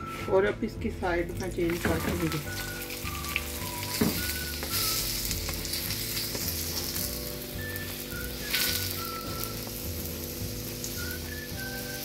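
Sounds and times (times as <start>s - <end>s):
flatbread sizzling in oil: 1.6s - 12.0s.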